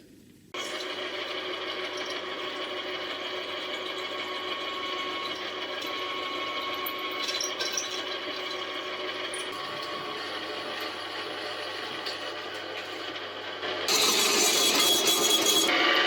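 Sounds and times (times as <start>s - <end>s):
electric drill drilling metal: 0.6s - 13.1s, 13.9s - 16.0s.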